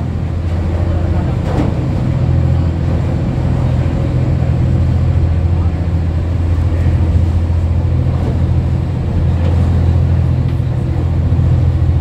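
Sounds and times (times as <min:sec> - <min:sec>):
boat engine droning: 0:00.0 - 0:12.0
wind and water rushing: 0:00.0 - 0:12.0.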